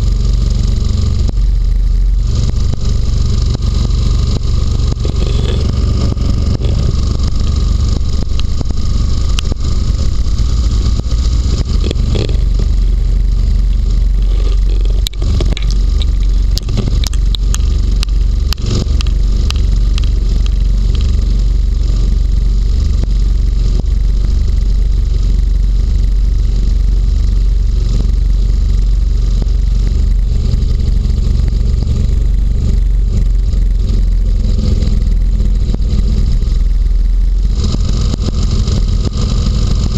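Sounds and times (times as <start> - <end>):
hovercraft engine rumble: 0.0 - 39.9.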